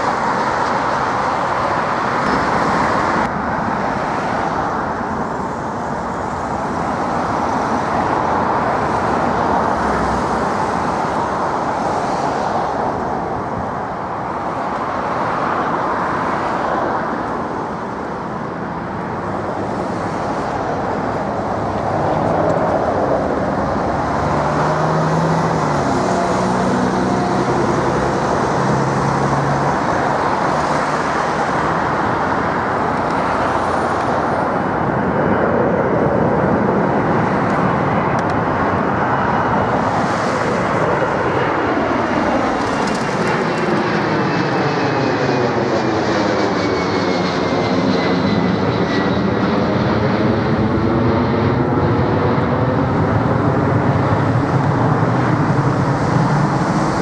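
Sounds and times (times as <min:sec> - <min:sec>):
jet engines rumbling and roaring: 0:00.0 - 0:57.0
jet passing low overhead: 0:00.0 - 0:57.0.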